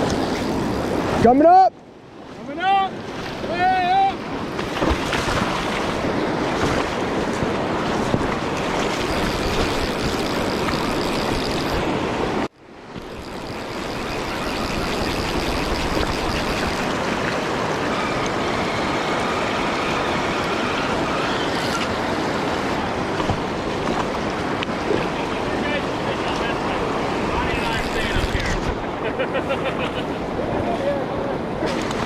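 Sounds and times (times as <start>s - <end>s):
river water rushing: 2.1s - 28.8s.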